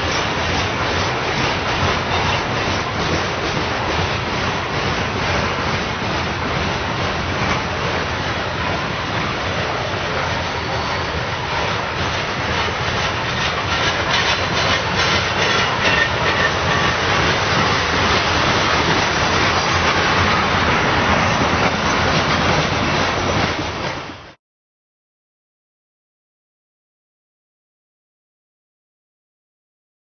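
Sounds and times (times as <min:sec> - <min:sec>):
train wheels clattering on rails: 0:00.0 - 0:24.4.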